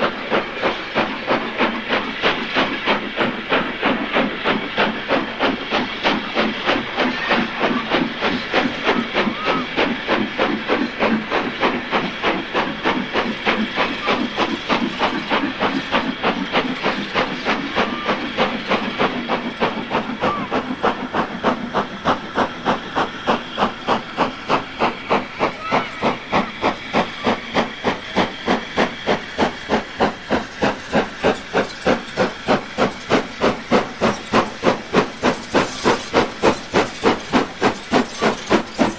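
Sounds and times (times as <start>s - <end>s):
steam hiss: 0.0s - 38.9s
steam locomotive chuffing: 0.0s - 38.9s.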